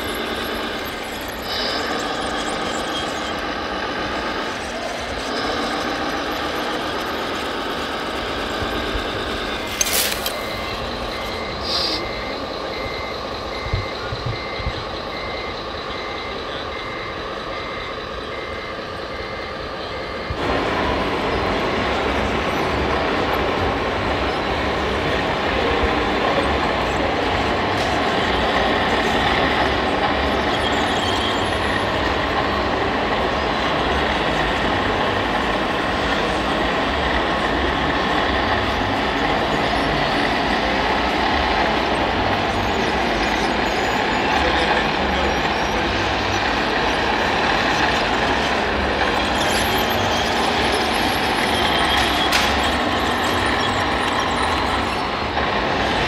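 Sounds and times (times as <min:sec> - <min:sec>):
reversing beeper beeping: 0:00.0 - 0:55.3.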